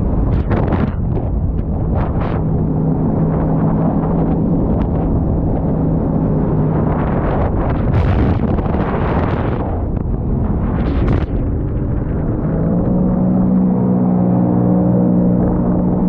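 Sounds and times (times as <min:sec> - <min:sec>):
watercraft engine running: 0:00.0 - 0:16.0
wind buffeting microphone: 0:00.0 - 0:16.0.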